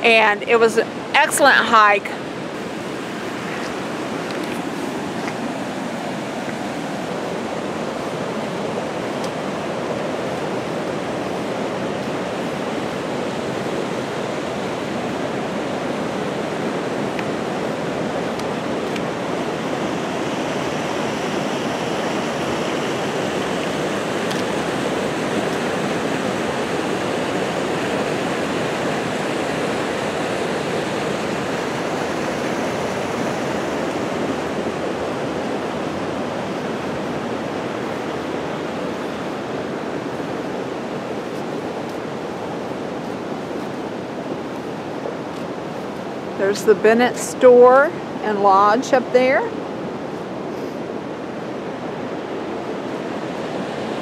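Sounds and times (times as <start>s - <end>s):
stream rushing over a bridge: 0.0s - 54.0s.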